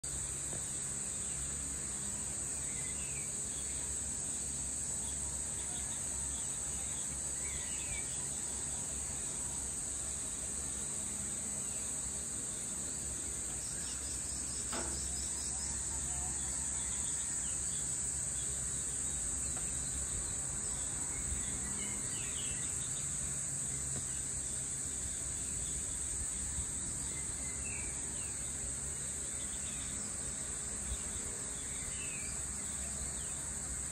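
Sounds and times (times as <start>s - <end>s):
insect chorus droning: 0.0s - 33.9s.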